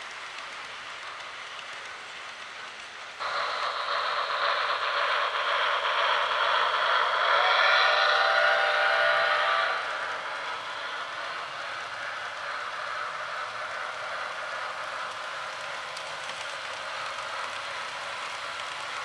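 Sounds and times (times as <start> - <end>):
model train wheels rolling: 0.0 - 19.0.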